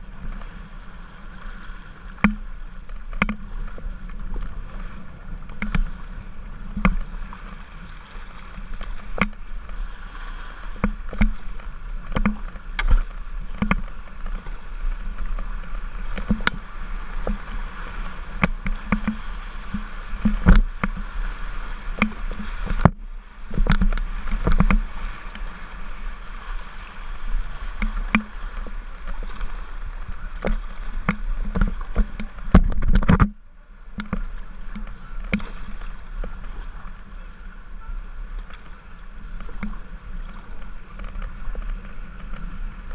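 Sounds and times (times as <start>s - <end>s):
muffled underwater dip: 0.0s - 42.9s
paddle strokes splashing: 0.0s - 42.9s
rushing river water: 0.0s - 42.9s
water slapping hull: 0.0s - 42.9s.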